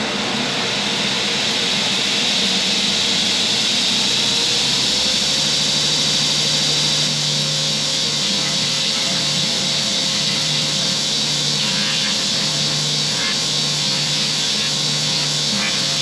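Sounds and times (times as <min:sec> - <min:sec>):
dust collector and belt grinder: 0:00.0 - 0:16.0.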